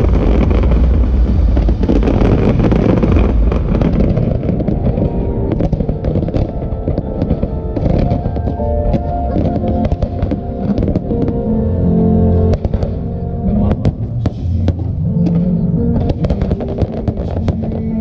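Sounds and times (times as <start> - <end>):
fireworks bursting and crackling: 0.0 - 11.8, 12.5 - 18.0
deep rumble: 0.0 - 18.0
music playing: 0.0 - 18.0.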